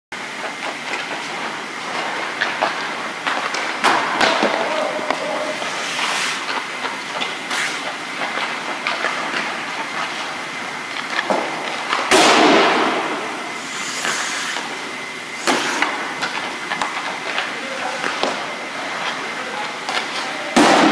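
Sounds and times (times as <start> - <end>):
hockey sticks and pucks clacking: 0.4 - 13.2, 15.4 - 20.9
skate blades scraping ice: 0.4 - 20.5.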